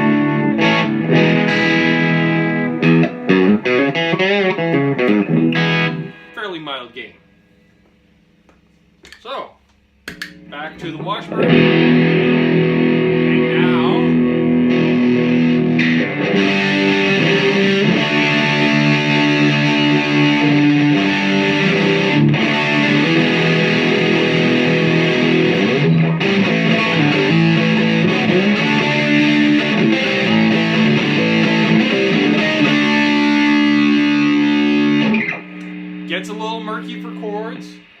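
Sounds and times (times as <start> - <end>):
distorted electric guitar: 0.0 - 6.4, 10.1 - 38.0.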